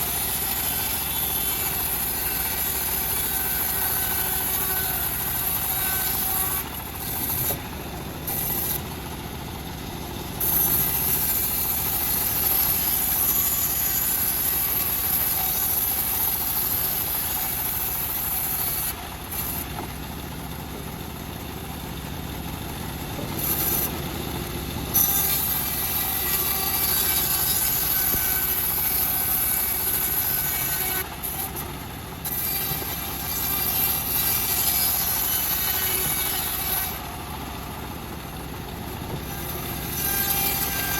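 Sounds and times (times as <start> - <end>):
bandsaw mill sawing wood: 0.0 - 40.9.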